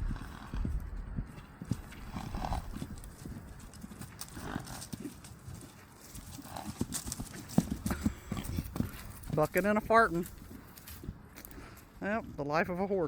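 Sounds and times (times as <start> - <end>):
horse hooves thudding on ground: 0.0 - 13.0.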